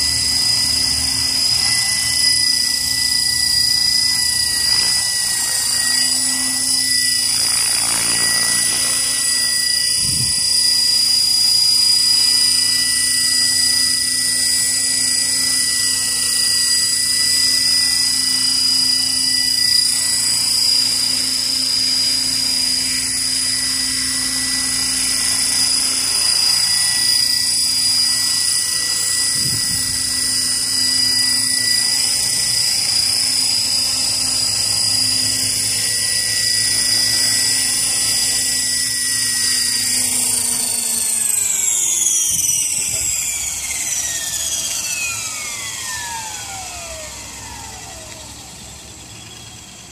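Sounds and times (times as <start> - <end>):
model helicopter rotor whine: 0.0 - 49.9.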